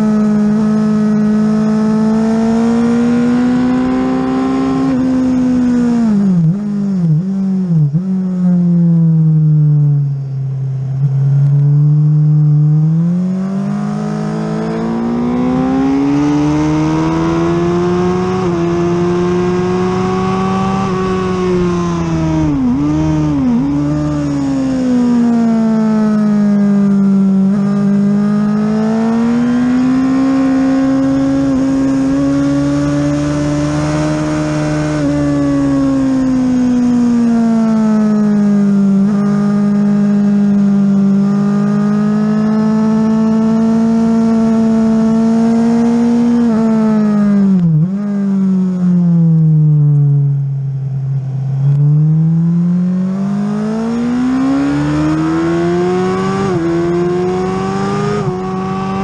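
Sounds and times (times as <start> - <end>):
engine blips on downshifts: 0.0 - 59.0
motorcycle engine revving: 0.0 - 59.0.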